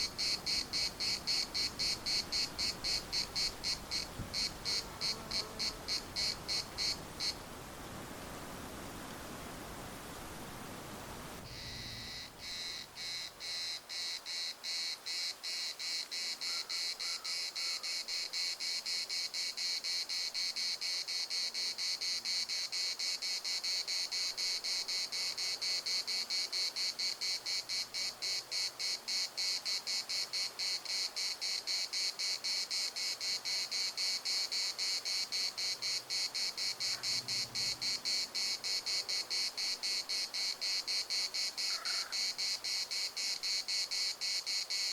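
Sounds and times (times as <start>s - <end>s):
cicada buzzing song: 0.0s - 7.4s, 11.4s - 44.9s.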